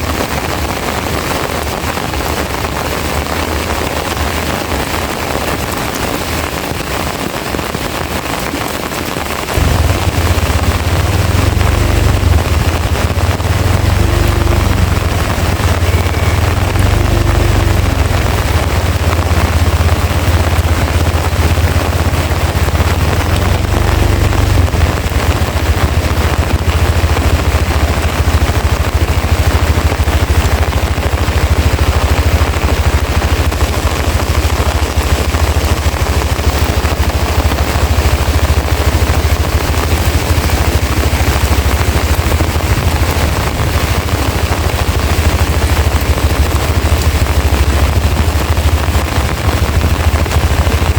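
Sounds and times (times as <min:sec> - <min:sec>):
heavy rain pouring: 0:00.0 - 0:50.9
wind buffeting microphone: 0:00.0 - 0:50.9.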